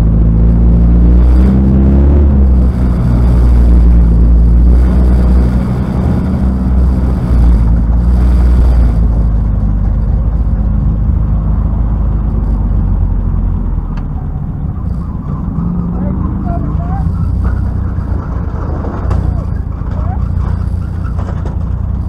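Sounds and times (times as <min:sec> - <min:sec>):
race car engine running: 0:00.0 - 0:22.0.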